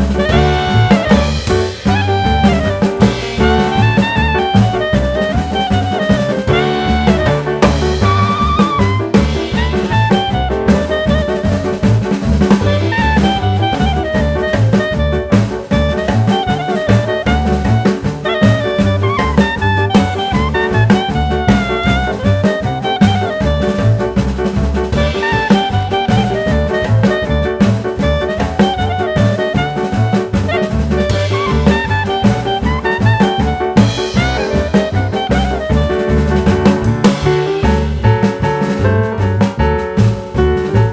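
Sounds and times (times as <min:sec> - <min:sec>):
instrumental jazz music: 0:00.0 - 0:40.9.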